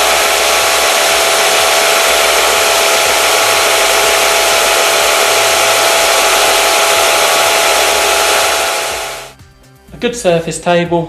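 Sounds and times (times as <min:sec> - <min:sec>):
sander whirring with whine: 0:00.0 - 0:09.3.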